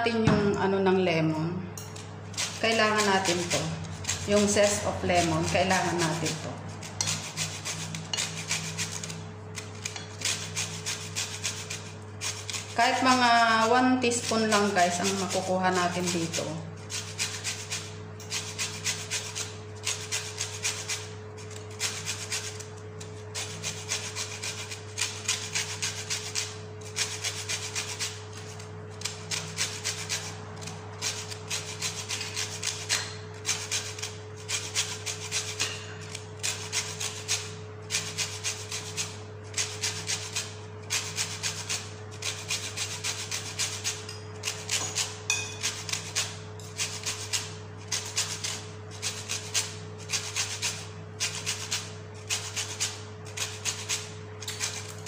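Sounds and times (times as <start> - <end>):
lemon rasping on metal grater: 2.0 - 55.0.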